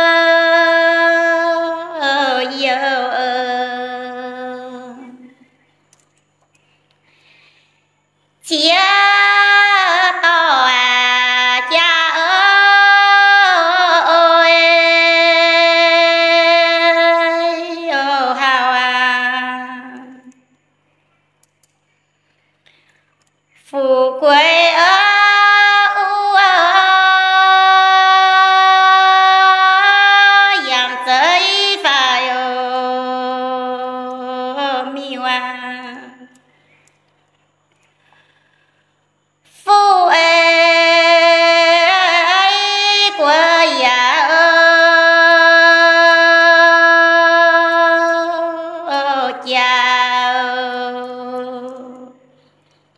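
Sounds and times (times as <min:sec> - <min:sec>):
woman singing unaccompanied: 0:00.0 - 0:05.4, 0:08.4 - 0:20.5, 0:23.6 - 0:36.5, 0:39.5 - 0:52.4.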